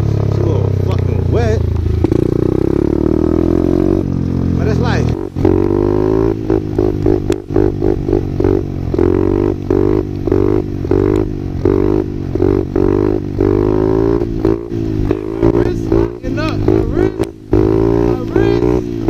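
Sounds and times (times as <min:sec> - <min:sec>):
small motorbike engine revving: 0:00.0 - 0:19.0.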